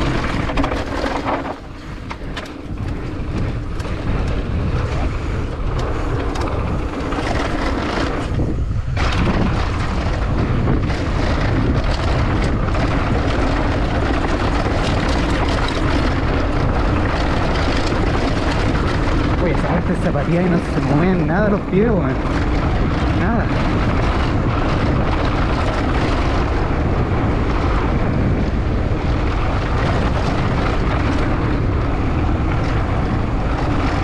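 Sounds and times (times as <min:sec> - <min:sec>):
bike rattling over bumps: 0:00.0 - 0:34.0
tyres rolling on dirt trail: 0:00.0 - 0:34.0
wind buffeting microphone: 0:00.0 - 0:34.0.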